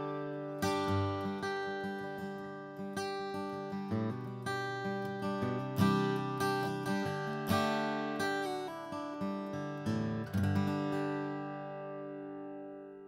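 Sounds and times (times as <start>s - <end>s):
acoustic guitar picked notes and chords: 0.0s - 13.0s.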